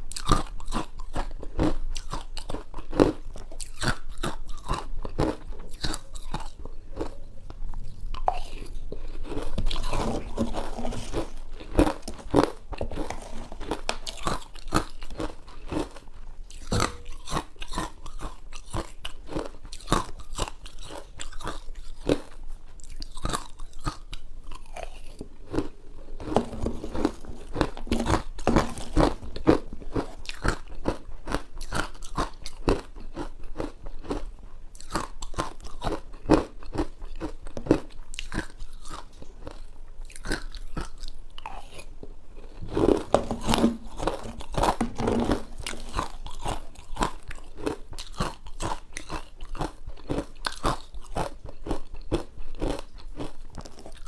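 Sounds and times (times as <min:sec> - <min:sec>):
ice crunching being chewed: 0:00.0 - 0:54.0.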